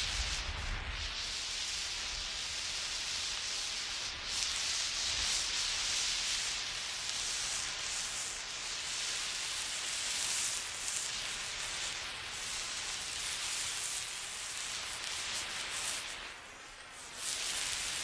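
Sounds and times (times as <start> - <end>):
burning flare hissing: 0.0 - 18.0.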